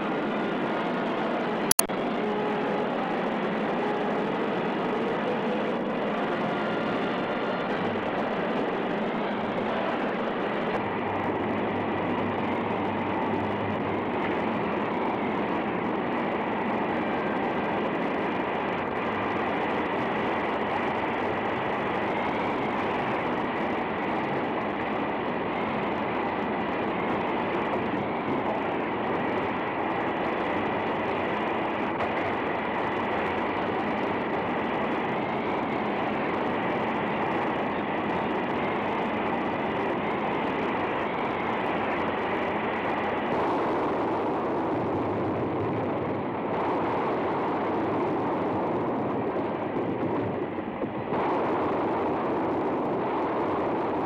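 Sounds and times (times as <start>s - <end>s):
steam hissing from pipes: 0.0s - 54.0s.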